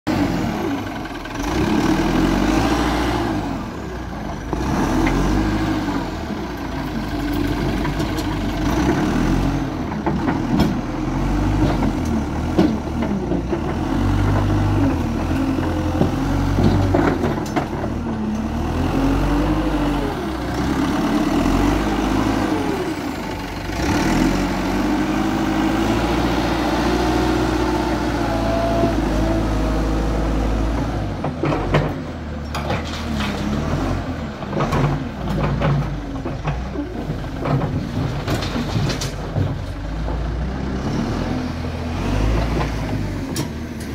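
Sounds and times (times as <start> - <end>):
diesel engine revving under load: 0.1 - 43.9.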